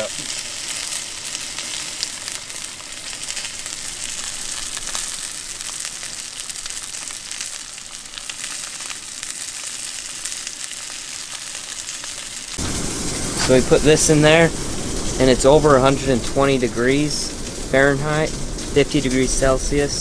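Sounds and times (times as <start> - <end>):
oil spattering crackles: 0.0 - 20.0
steak sizzling in skillet: 0.0 - 20.0.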